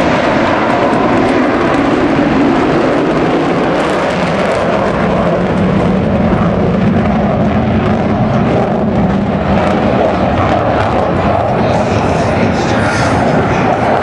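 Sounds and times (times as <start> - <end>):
jet engines rumbling flyby: 0.0 - 14.0.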